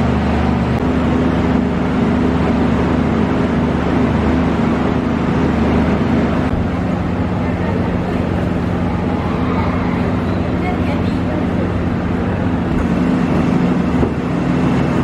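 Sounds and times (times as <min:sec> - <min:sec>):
held humming tones: 0:00.0 - 0:15.0
low mechanical drone: 0:00.0 - 0:15.0.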